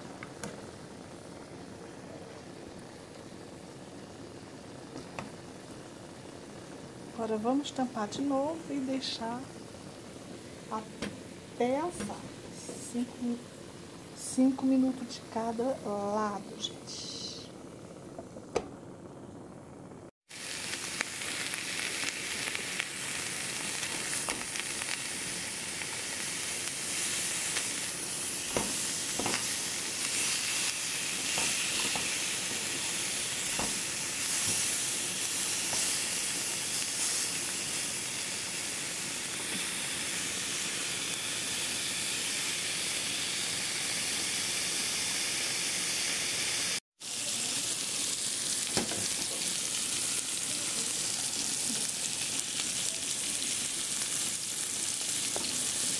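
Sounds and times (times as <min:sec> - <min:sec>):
pork sizzling in a pan: 0:00.0 - 0:19.1, 0:20.3 - 0:55.9.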